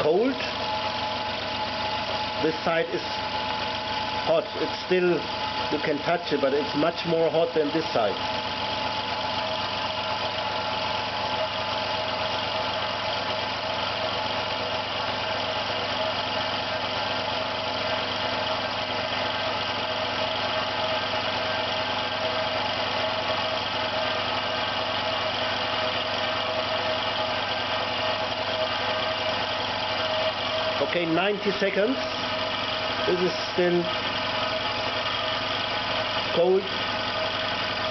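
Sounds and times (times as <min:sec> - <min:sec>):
air compressor humming: 0:00.0 - 0:37.9.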